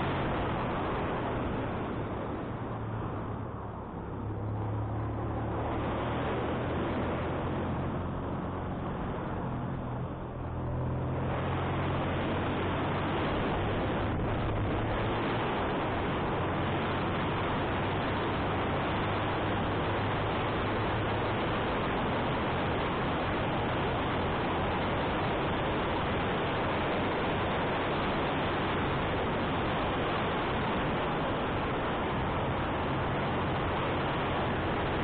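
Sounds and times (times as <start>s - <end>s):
wind noise on microphone: 4.3s - 35.0s.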